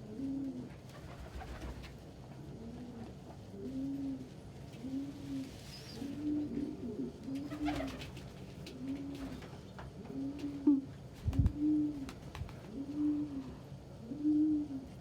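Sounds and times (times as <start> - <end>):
pigeons cooing: 2.5 - 15.0.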